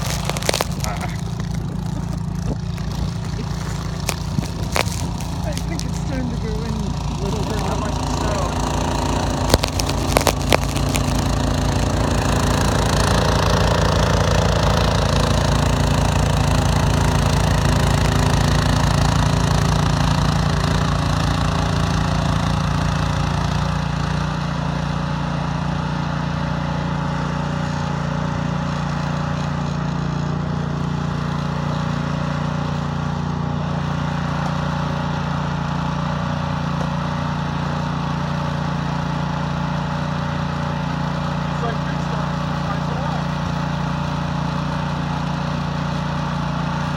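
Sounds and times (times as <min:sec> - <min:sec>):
snowblower engine running: 0:00.0 - 0:46.9.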